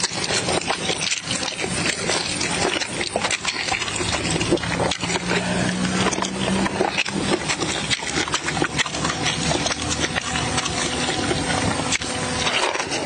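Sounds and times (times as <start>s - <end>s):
chewing and lip-smacking: 0.0s - 13.0s
low steady hum: 0.0s - 13.0s.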